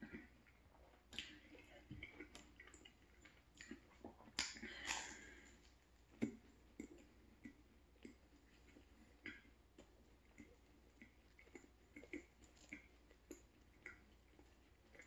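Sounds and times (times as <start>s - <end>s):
chewing and lip smacks: 0.0s - 15.0s
flaky pastry crunch: 0.1s - 15.0s.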